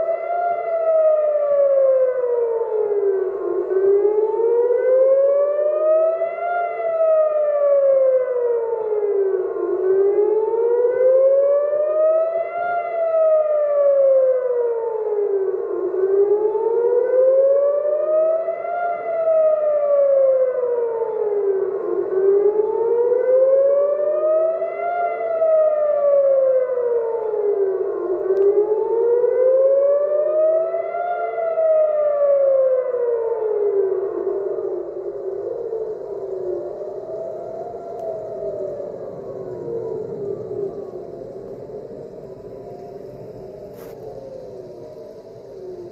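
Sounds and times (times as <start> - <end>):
air-raid siren wailing: 0.0 - 45.9.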